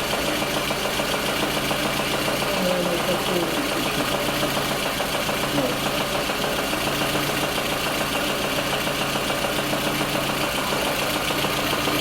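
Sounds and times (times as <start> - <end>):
car engine idling: 0.0 - 12.0
fast tapping engine clatter: 0.0 - 12.0.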